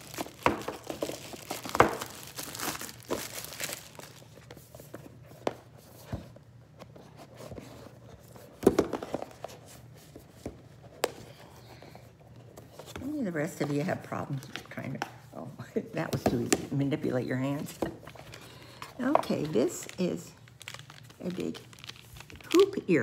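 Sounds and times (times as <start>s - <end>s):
packaging crinkling and rustling: 0.0s - 15.3s, 17.5s - 23.0s.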